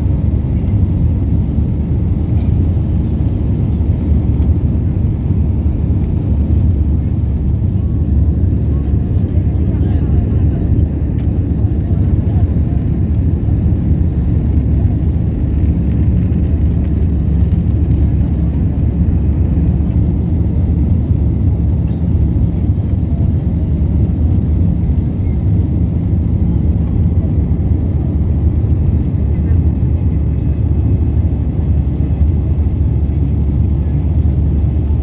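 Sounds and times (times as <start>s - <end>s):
aircraft engines and airflow drone: 0.0s - 35.0s.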